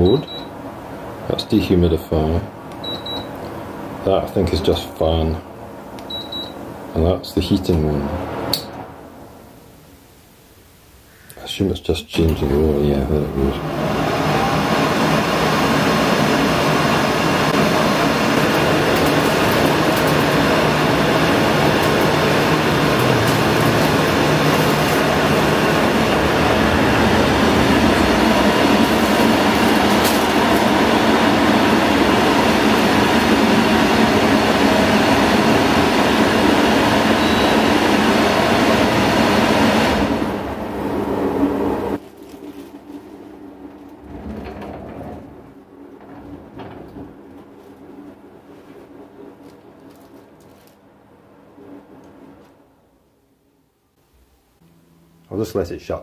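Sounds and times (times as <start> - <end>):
air conditioner fan blowing: 0.0 - 56.0.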